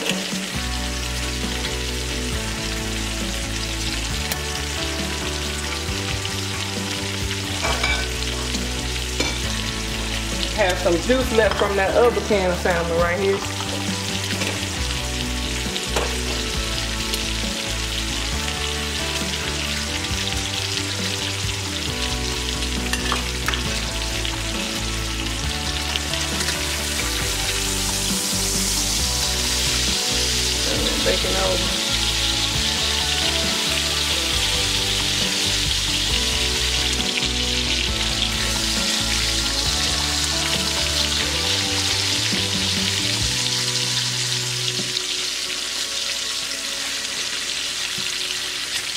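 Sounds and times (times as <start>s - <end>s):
bacon sizzling in a skillet: 0.0s - 48.9s
utensil turning bacon: 0.0s - 48.9s.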